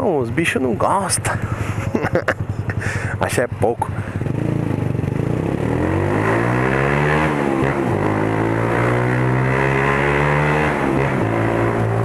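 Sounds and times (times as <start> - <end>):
motorcycle accelerating: 0.0 - 12.0.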